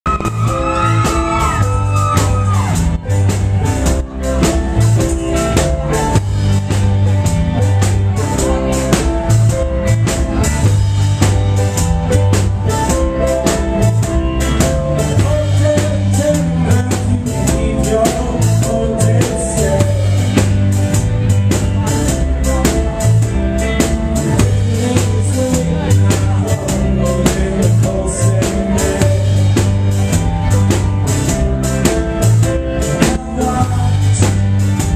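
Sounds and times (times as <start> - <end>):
keyboard: 0.0 - 34.9
drum kit hits: 0.1 - 34.9
electric guitars: 0.1 - 34.9.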